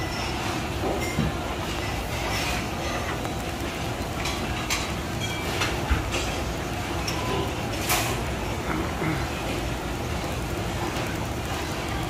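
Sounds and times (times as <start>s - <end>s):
low kitchen rumble: 0.0s - 12.0s.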